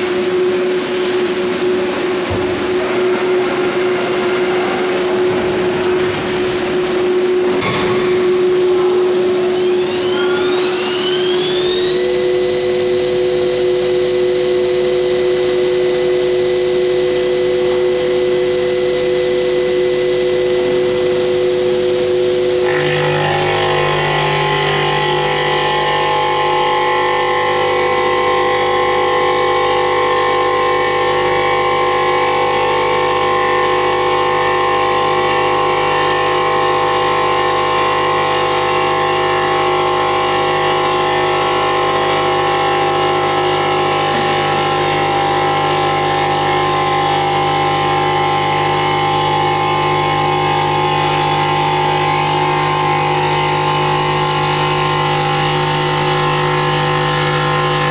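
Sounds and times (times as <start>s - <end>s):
constant machine hiss: 0.0s - 57.9s
machine hum with held tones: 0.0s - 57.9s.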